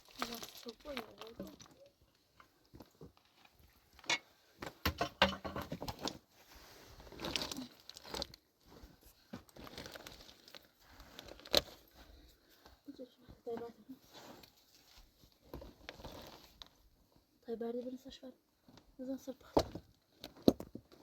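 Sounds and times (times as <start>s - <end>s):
rustling and handling noise: 0.0s - 21.0s.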